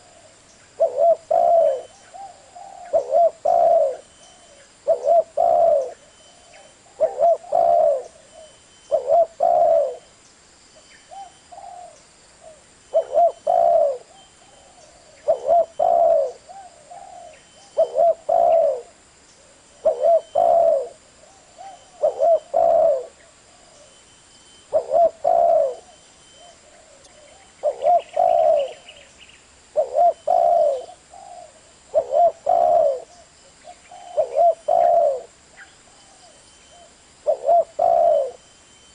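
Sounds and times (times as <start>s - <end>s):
dove cooing: 0.0s - 10.1s, 11.1s - 24.0s, 24.6s - 38.4s.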